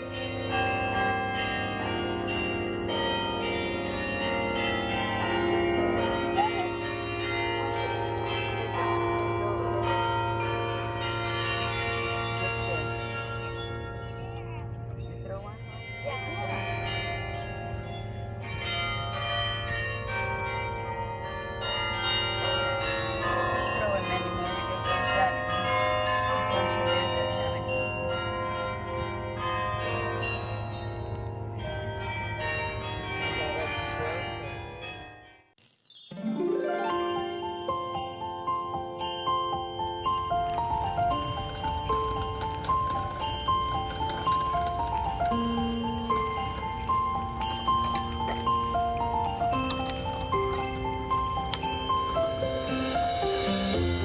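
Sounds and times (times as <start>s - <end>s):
carillon bells playing a tune: 0.0s - 54.0s.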